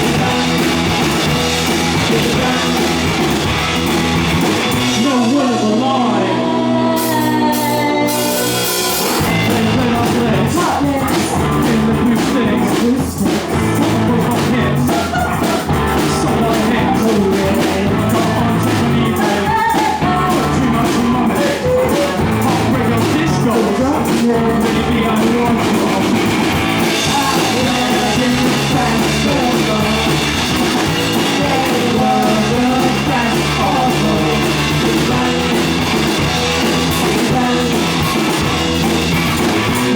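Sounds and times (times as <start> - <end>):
bass guitar: 0.0 - 39.9
drum kit beat: 0.0 - 39.9
electric guitar: 0.0 - 39.9
person singing: 0.0 - 39.9.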